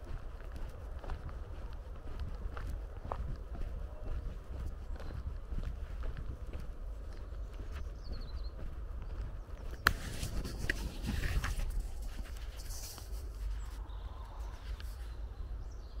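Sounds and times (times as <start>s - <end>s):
footsteps on grass and dirt: 0.0s - 15.9s
steady low rumble: 0.0s - 16.0s.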